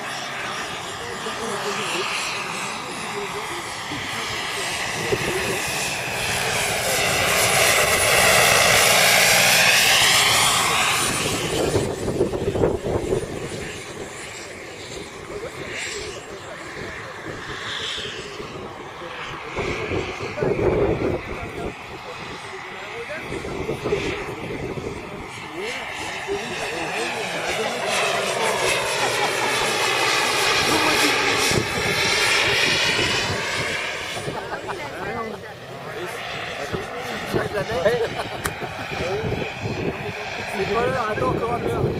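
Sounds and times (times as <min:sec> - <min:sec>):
helicopter rotor noise: 0:00.0 - 0:41.9
model helicopter turbine whine: 0:00.0 - 0:41.9.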